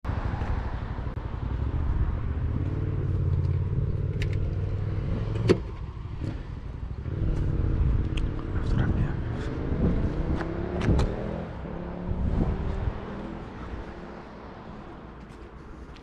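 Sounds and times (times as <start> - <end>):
rotary engine accelerating: 0.1 - 15.1.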